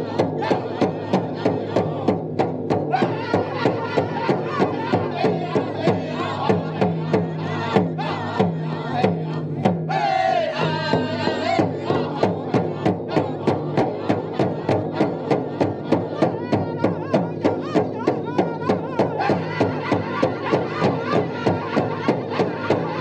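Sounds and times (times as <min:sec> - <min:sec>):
big drum beating: 0:00.0 - 0:23.0
singers chanting: 0:00.0 - 0:23.0.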